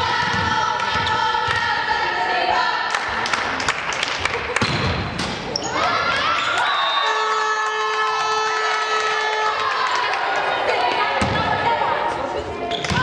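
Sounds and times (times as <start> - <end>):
spectators shouting and chanting: 0.0 - 3.3, 5.4 - 13.0.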